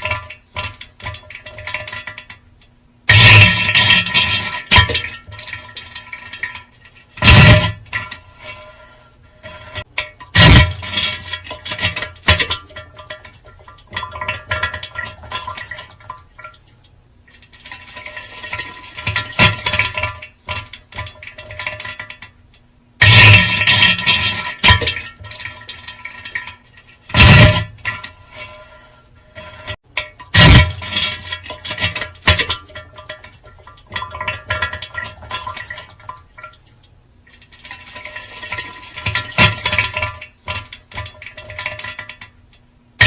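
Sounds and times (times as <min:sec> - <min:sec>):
toilet flushing: 0:00.0 - 0:02.4, 0:03.0 - 0:16.6, 0:17.2 - 0:22.4, 0:23.0 - 0:36.6, 0:37.3 - 0:43.0.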